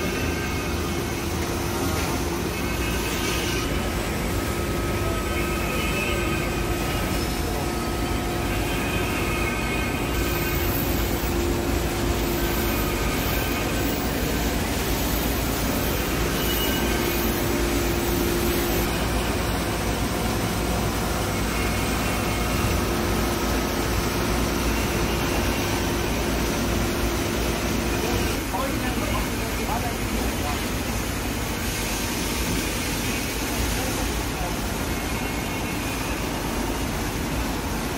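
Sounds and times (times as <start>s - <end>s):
constant hum: 0.0s - 37.9s
machinery running: 0.0s - 37.9s.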